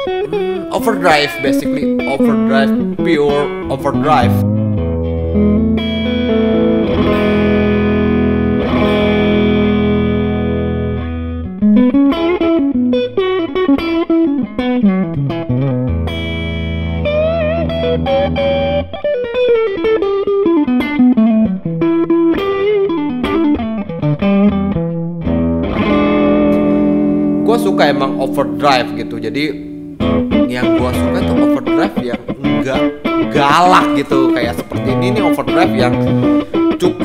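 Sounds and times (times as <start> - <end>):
overdriven electric guitar: 0.0 - 37.0.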